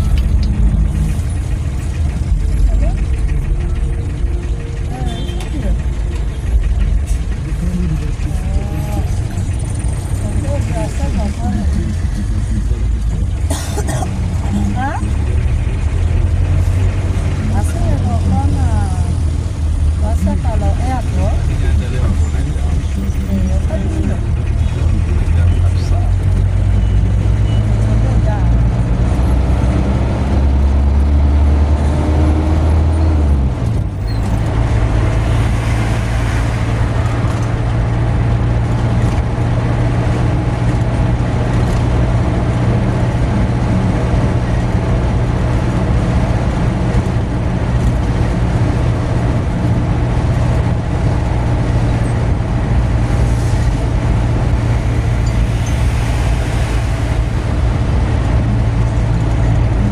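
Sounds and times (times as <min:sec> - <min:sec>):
car engine hum: 0:00.0 - 0:59.9
deep low rumble: 0:00.0 - 0:59.9
tyre and road noise: 0:00.0 - 0:59.9.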